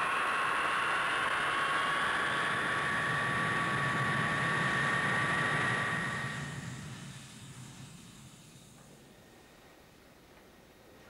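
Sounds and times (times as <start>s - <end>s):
jet engines running: 0.0s - 9.2s.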